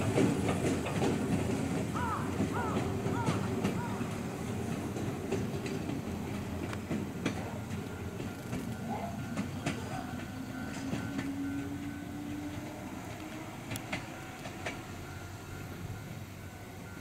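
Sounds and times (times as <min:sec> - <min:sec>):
wheels clicking over rail joints: 0:00.0 - 0:16.2
train rumbling: 0:00.0 - 0:17.0.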